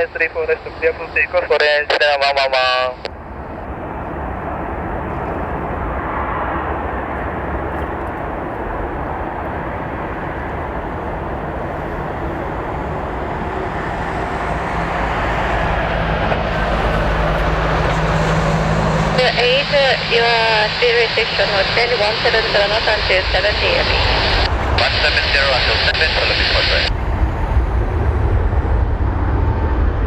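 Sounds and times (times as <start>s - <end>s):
jet engines roaring at takeoff: 0.0s - 30.0s
low hum: 0.5s - 30.0s.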